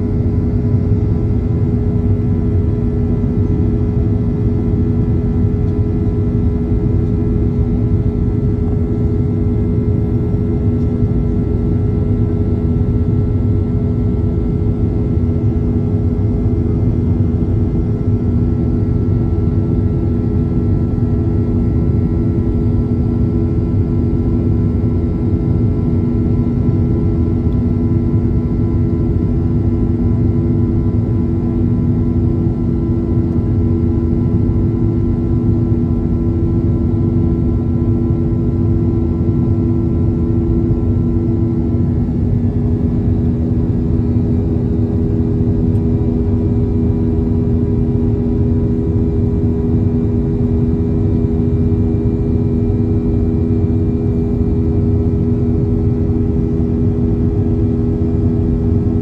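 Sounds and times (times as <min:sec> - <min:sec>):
high engine whine: 0:00.0 - 0:59.0
jet engines rumbling in cabin: 0:00.0 - 0:59.0.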